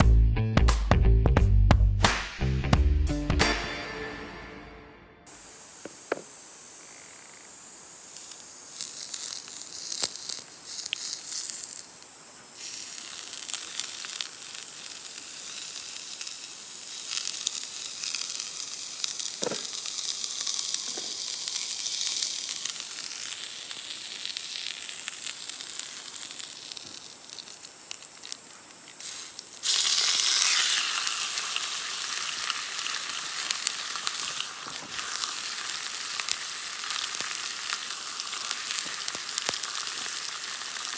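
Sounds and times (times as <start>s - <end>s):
crackles and pops: 5.3s - 40.9s
steak sizzling in a pan: 5.3s - 40.9s.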